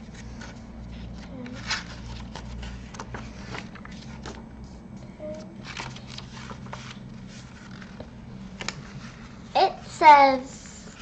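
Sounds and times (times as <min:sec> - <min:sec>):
book pages rustling: 0:00.0 - 0:09.5
steady low hum: 0:00.0 - 0:11.0.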